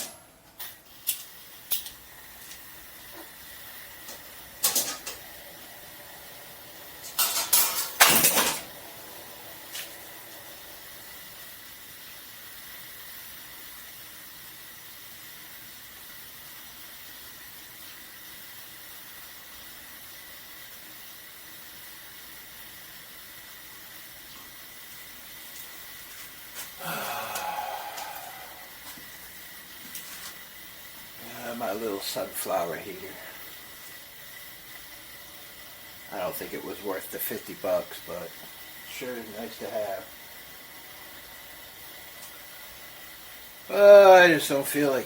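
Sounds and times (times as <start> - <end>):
gas heater hissing with high whine: 0.0 - 45.0.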